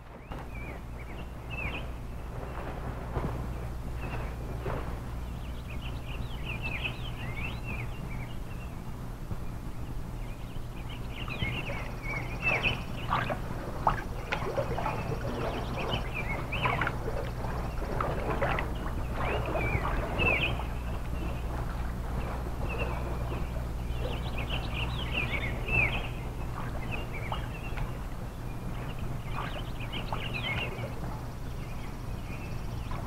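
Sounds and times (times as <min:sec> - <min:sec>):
low hum: 0:00.0 - 0:33.0
birds chirping and singing: 0:00.1 - 0:02.7, 0:04.0 - 0:08.9, 0:09.5 - 0:33.0.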